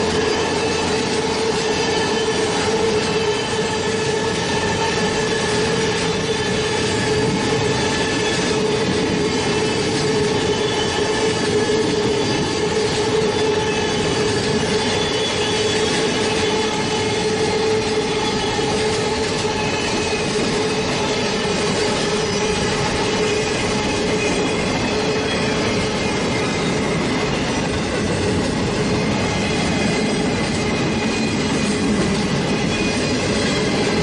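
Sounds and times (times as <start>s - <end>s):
train rumbling steadily: 0.0s - 34.0s.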